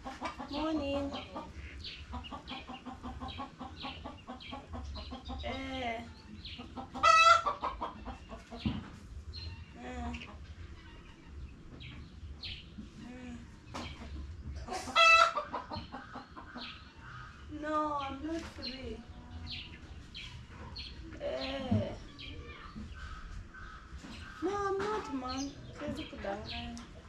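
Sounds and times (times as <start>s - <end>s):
chickens clucking and peeping: 0.0s - 27.0s.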